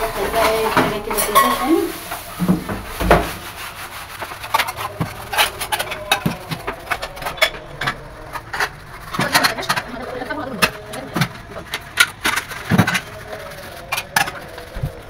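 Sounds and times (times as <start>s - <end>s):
household things clicking and knocking: 0.0s - 15.0s.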